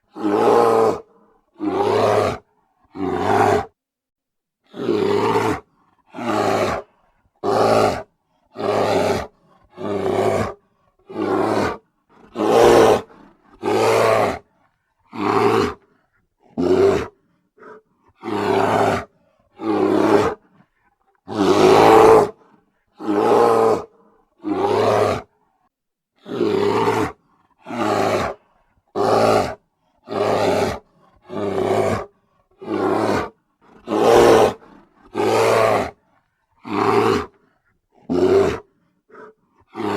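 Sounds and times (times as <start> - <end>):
bear roaring: 0.1 - 3.8, 4.7 - 14.5, 15.1 - 20.6, 21.2 - 25.3, 26.2 - 36.0, 36.6 - 39.9.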